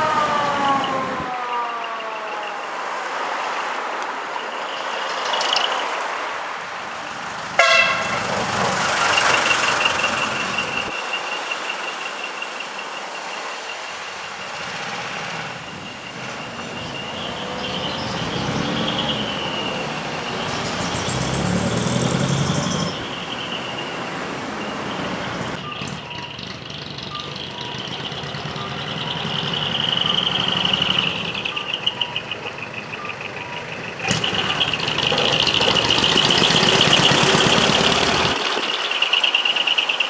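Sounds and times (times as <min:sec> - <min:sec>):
wavering electronic siren: 0:00.0 - 0:06.2, 0:07.6 - 0:40.0
diesel truck engines running: 0:00.0 - 0:40.0.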